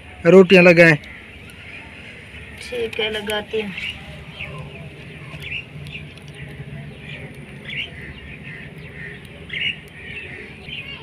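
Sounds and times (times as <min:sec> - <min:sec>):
faint steady low hum: 0:00.0 - 0:11.0
small birds chirping: 0:00.0 - 0:11.0.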